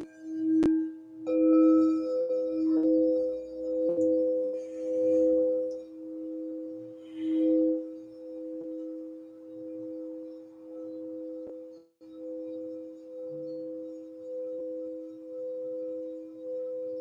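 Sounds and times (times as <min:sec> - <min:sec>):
crystal singing bowls ringing: 0:00.0 - 0:17.0.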